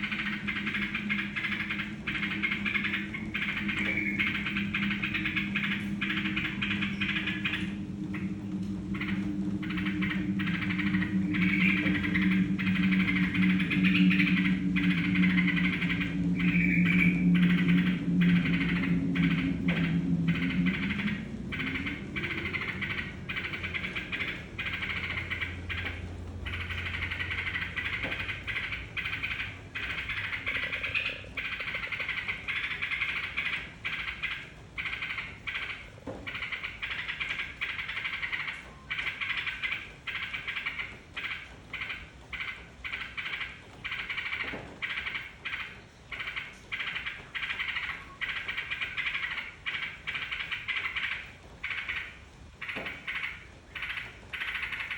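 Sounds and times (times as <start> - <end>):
bird chattering song: 0.0 - 54.9.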